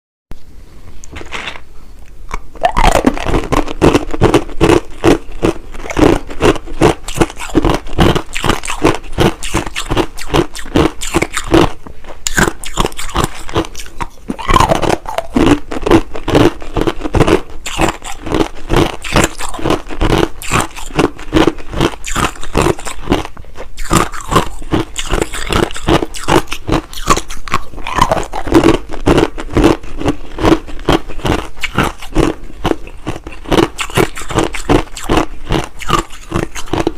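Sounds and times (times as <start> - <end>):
crushed ice being chewed: 2.3 - 36.9.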